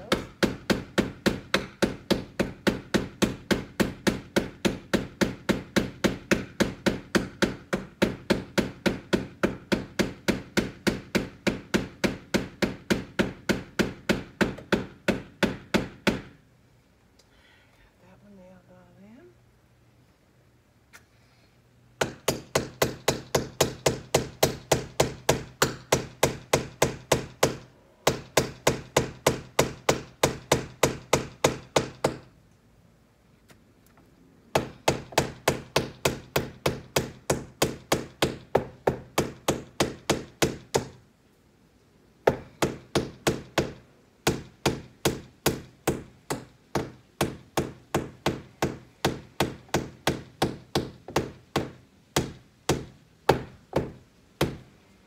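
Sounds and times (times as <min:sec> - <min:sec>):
hammer driving nails: 0:00.1 - 0:16.4, 0:22.0 - 0:32.3, 0:34.5 - 0:41.0, 0:42.2 - 0:54.7.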